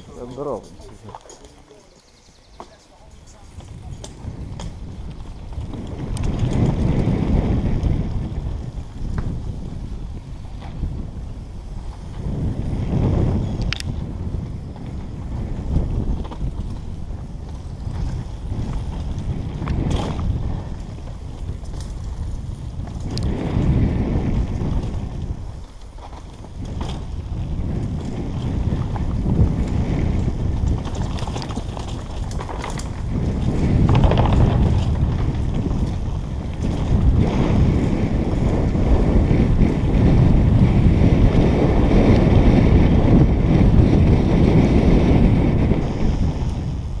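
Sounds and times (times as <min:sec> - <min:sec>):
bike tyres and frame rattling: 0:00.0 - 0:47.0
wind buffeting microphone: 0:00.0 - 0:47.0.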